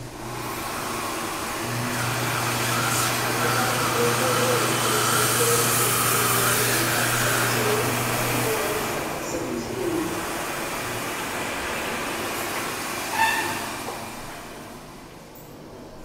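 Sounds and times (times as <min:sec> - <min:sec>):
hand dryer blowing air: 0:00.0 - 0:15.2.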